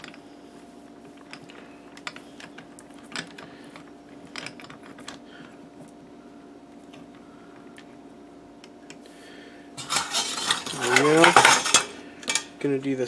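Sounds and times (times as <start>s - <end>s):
clicks and rustles of twisting wires: 0.0s - 9.1s, 9.8s - 12.9s
faint steady hum: 0.0s - 13.0s.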